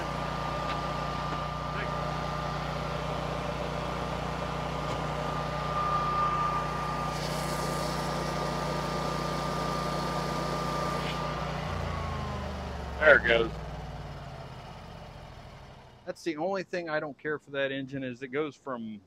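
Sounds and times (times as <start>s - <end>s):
generator engine running with whine: 0.0s - 16.2s.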